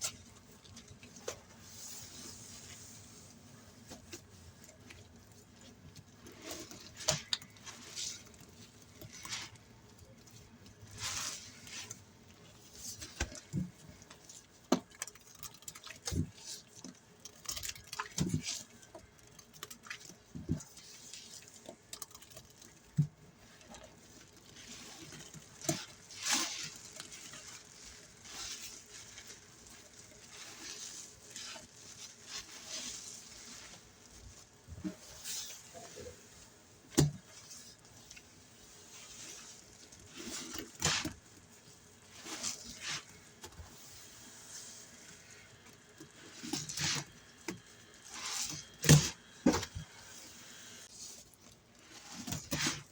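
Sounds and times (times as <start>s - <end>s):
soapy sponge squeezed wet crackling: 0.0s - 52.9s.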